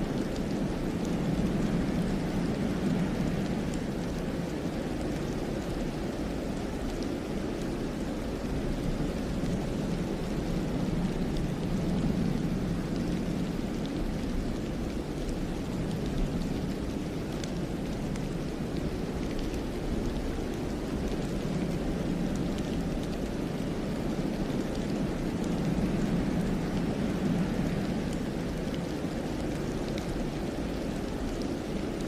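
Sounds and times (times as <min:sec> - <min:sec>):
wind through pine forest: 0:00.0 - 0:32.0.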